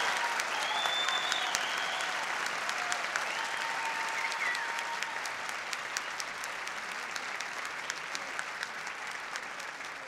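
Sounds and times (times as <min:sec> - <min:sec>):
crowd applause: 0:00.0 - 0:10.0.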